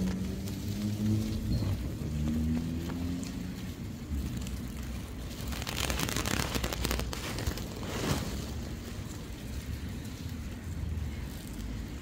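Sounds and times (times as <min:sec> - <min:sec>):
crackling: 0:00.0 - 0:12.0
wind noise with rustling: 0:00.0 - 0:12.0.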